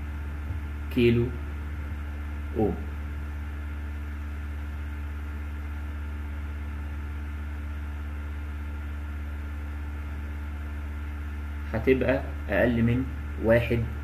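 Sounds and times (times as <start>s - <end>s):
low hum with faint hiss: 0.0s - 14.0s.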